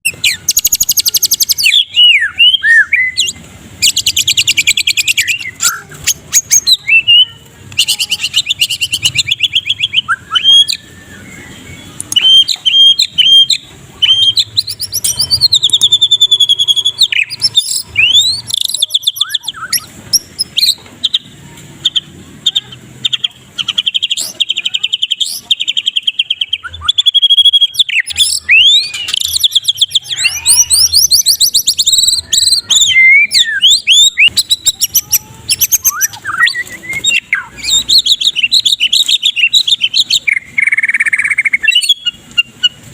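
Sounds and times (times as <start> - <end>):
bird singing trills and whistles: 0.0 - 42.9.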